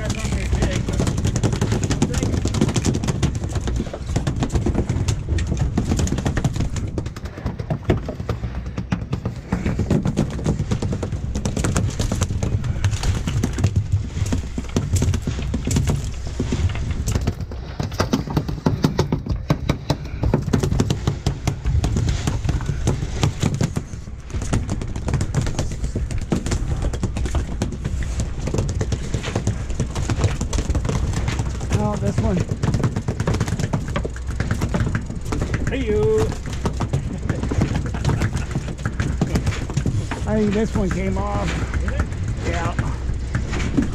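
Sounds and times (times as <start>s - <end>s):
irregular clicking and knocking: 0.0s - 43.9s
wind rumble on microphone: 0.0s - 43.9s.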